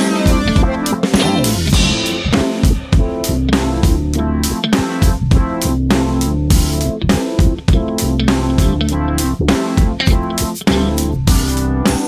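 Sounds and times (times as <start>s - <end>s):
drum kit beat: 0.0s - 12.0s
guitar: 0.0s - 12.0s
bass: 0.1s - 12.0s.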